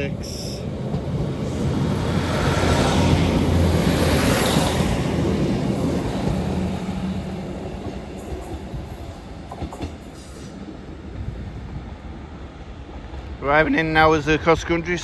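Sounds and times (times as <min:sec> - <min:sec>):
train engine hum: 0:00.0 - 0:15.0.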